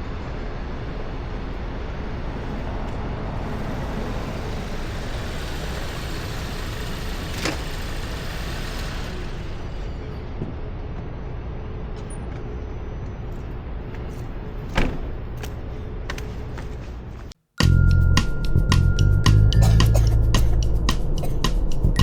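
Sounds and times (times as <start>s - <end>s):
vehicle and road noise: 0.0s - 22.0s.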